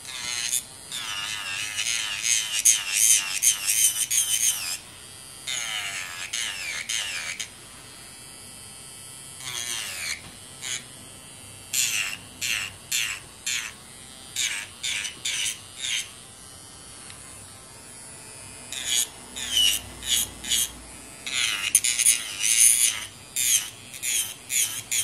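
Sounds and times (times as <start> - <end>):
nail drill grinding buzz: 0.0 - 7.6, 9.3 - 25.0.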